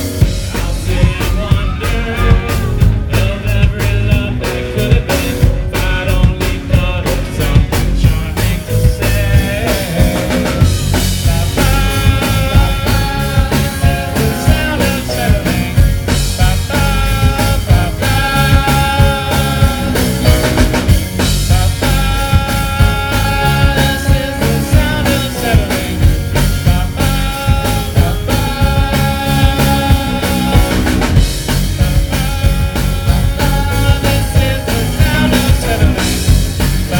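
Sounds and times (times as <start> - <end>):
drums keeping steady beat: 0.0 - 36.9
electric guitar: 0.0 - 36.9.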